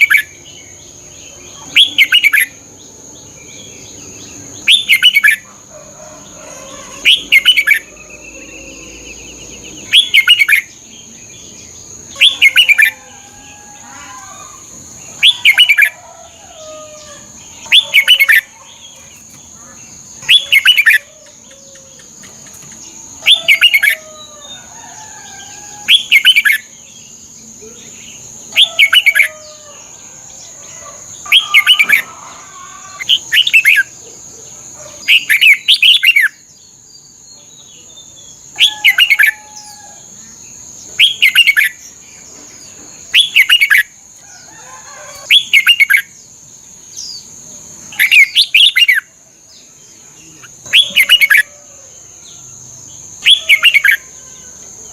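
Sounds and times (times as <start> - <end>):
bird singing: 0.0 - 54.9.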